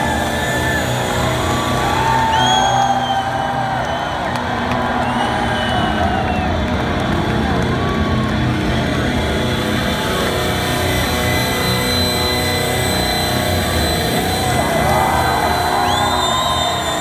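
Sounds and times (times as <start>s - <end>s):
audience cheering and whistling: 0.0s - 9.1s, 11.1s - 17.0s.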